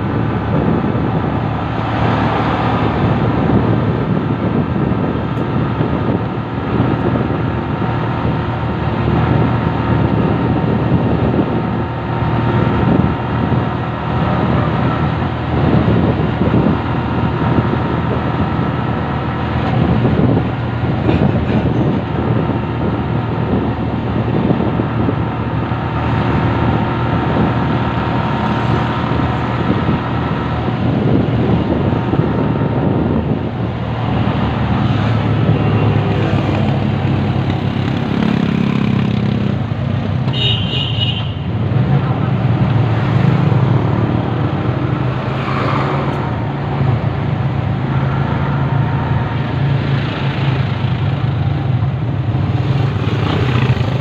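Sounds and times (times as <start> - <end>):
vehicle engine and road noise: 0.0 - 54.0
wind rushing over microphone: 0.0 - 54.0.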